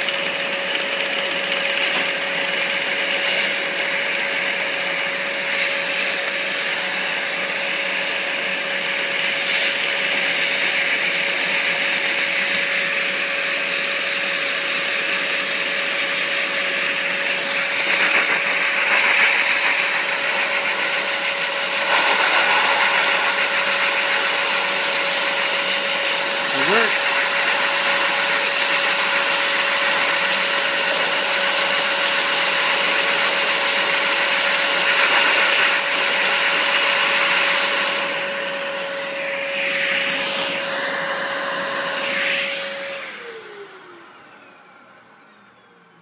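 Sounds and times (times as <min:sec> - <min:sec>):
vacuum cleaner whine and air rush: 0:00.0 - 0:46.0.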